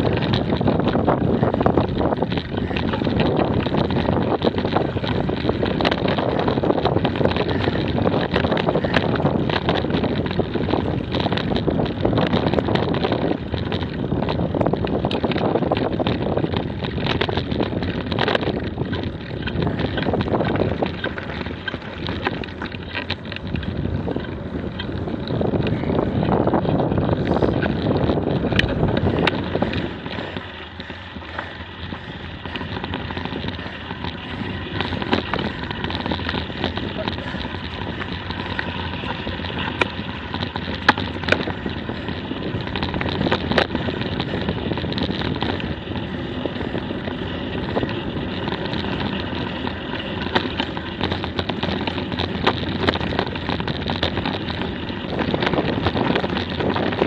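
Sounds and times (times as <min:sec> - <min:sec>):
bicycle tyres rumbling on dirt: 0:00.0 - 0:57.0
small clicks and rattles: 0:00.0 - 0:57.0
wind buffeting microphone: 0:00.0 - 0:57.0.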